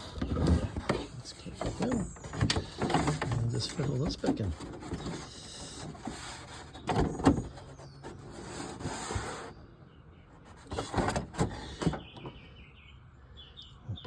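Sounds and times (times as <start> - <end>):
rustling and scraping: 0.0 - 9.6, 10.3 - 12.4.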